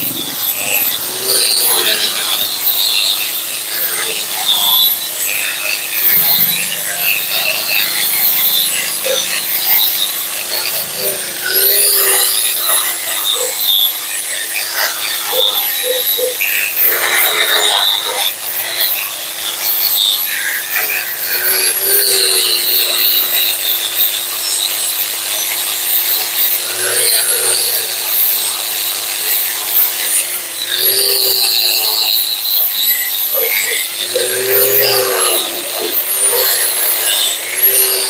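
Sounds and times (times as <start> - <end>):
angle grinder motor whine: 0.0 - 38.0
grinding disc on metal: 0.0 - 38.0.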